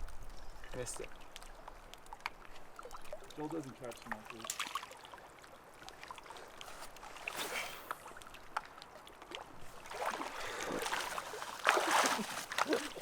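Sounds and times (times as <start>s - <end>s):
water sloshing and splashing: 1.0s - 13.0s.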